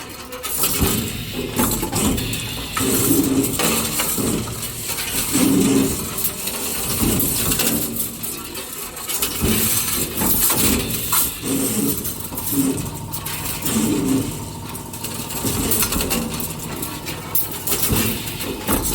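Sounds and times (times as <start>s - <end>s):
steady machine noise: 0.0s - 18.9s.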